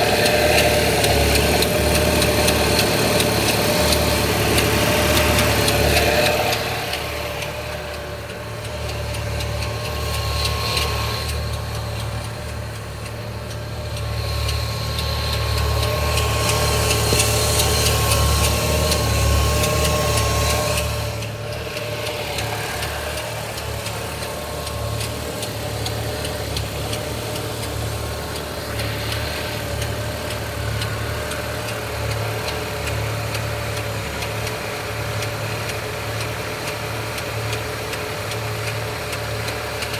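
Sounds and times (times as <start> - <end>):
car engine idling: 0.0 - 39.9
timing chain ticking: 0.0 - 39.9.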